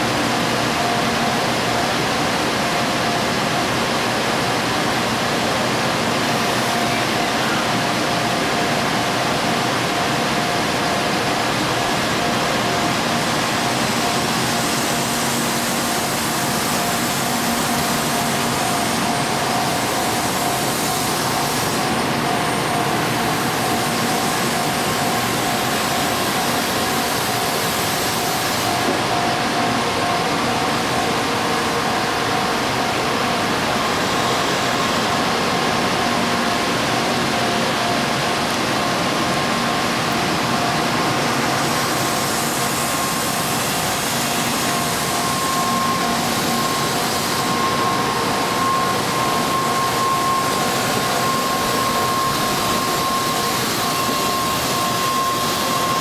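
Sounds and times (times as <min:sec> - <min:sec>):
train rolling past: 0:00.0 - 0:56.0.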